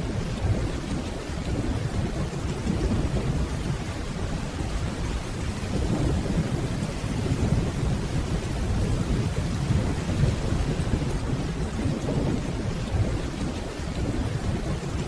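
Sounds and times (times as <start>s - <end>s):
low rumble of distant thunder: 0.0s - 15.0s
steady rainfall: 0.0s - 15.0s.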